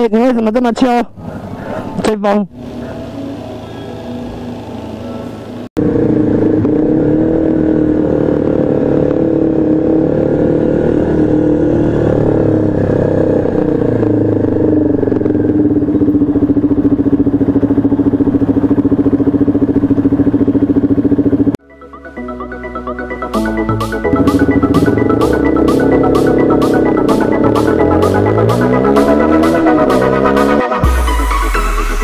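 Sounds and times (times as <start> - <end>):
motorcycle engine running: 2.6 - 21.6, 22.2 - 32.0.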